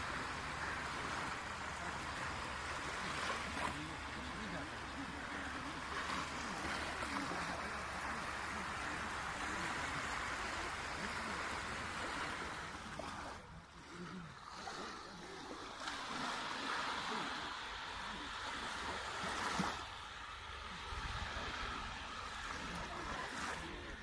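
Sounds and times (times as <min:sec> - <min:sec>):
waves washing up a sandy beach: 0:00.0 - 0:24.0.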